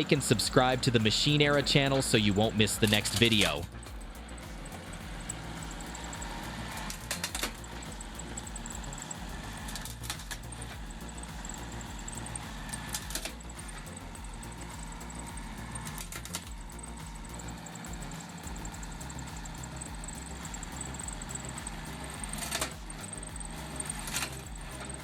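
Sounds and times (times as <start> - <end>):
engine running: 0.0 - 25.0
clusters of clicks: 2.6 - 25.0.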